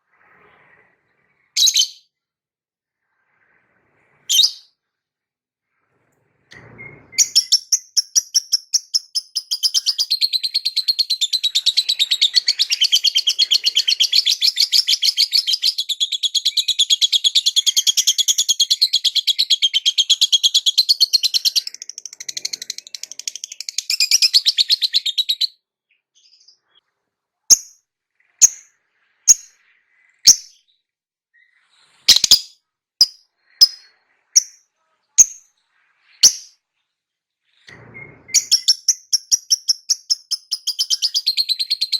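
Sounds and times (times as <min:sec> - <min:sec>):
cage bird chirping: 0:00.2 - 0:02.1, 0:03.8 - 0:04.8, 0:06.0 - 0:41.9.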